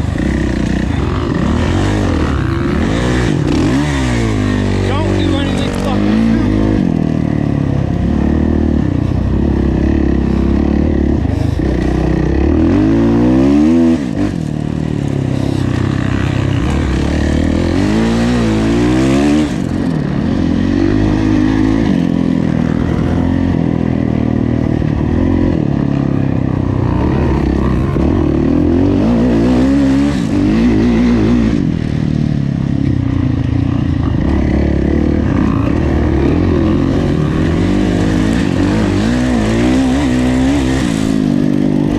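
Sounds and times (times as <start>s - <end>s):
motocross engine revving: 0.0s - 41.9s.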